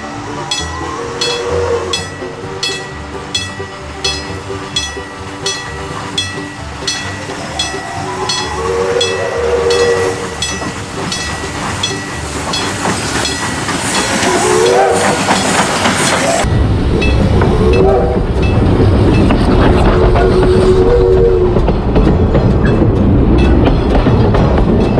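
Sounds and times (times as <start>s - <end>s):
steam whistle: 0.0s - 22.1s
heavy low rumble: 0.0s - 24.9s
steam locomotive chuffing: 0.0s - 24.9s.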